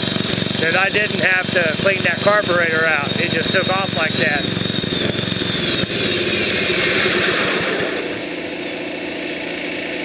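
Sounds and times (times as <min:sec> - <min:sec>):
mower engine running: 0:00.0 - 0:10.0.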